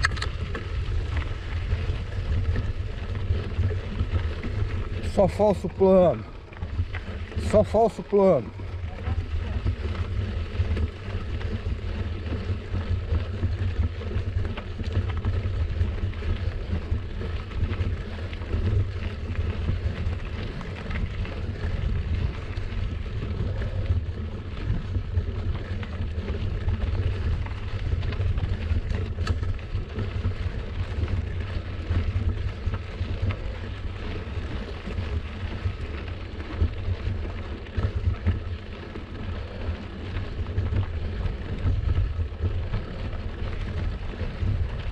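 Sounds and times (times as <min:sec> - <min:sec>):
bicycle rolling noise: 0:00.0 - 0:44.9
wind on microphone: 0:00.0 - 0:44.9.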